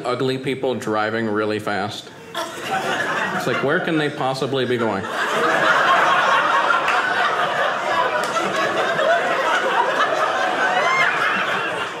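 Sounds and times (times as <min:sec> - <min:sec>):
audience laughing: 0:02.3 - 0:12.0.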